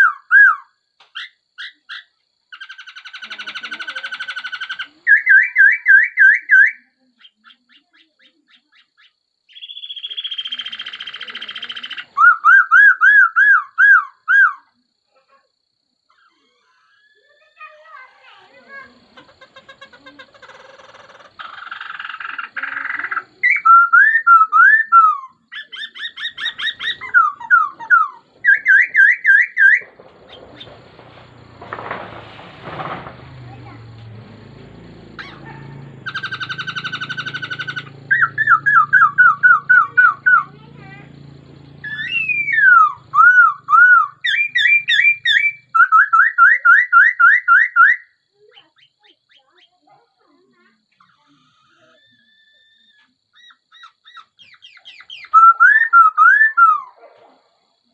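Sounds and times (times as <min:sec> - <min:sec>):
bird whistled phrases: 0:00.0 - 0:14.7, 0:16.1 - 0:30.7, 0:35.2 - 0:41.1, 0:41.8 - 0:49.9, 0:51.0 - 0:57.0
bird harsh rasping chatter: 0:01.0 - 0:14.3, 0:16.1 - 0:57.0.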